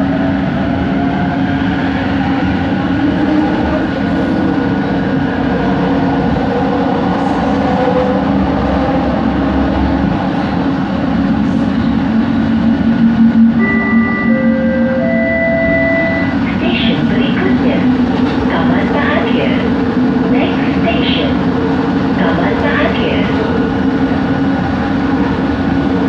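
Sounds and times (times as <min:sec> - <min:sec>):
metro train ride rumble: 0:00.0 - 0:26.0.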